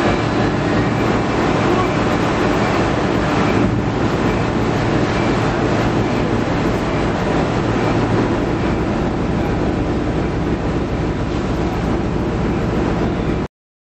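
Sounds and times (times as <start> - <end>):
ferry engine rumbling: 0.0 - 13.5
rushing water noise: 0.0 - 13.5.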